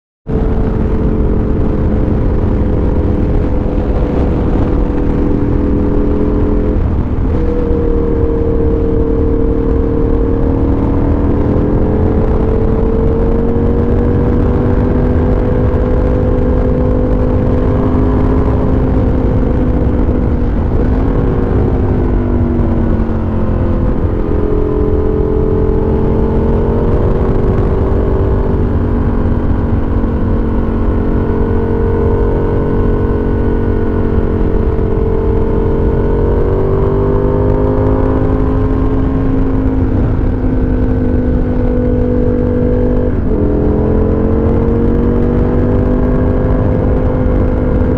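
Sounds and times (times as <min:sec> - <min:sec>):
low wind rumble: 0:00.2 - 0:47.9
motorcycle engine revving: 0:00.2 - 0:47.9.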